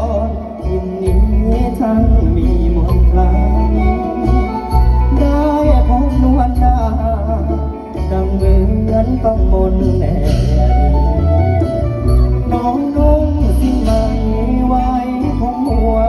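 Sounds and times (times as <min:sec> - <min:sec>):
melodic ensemble line: 0:00.0 - 0:16.0.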